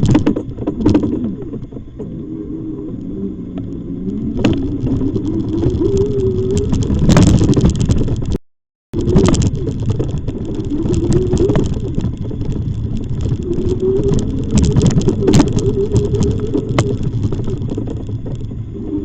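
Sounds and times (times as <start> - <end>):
wavering motor whine: 0.0 - 8.0, 9.0 - 19.0
rumble of wheels and wind: 0.0 - 19.0.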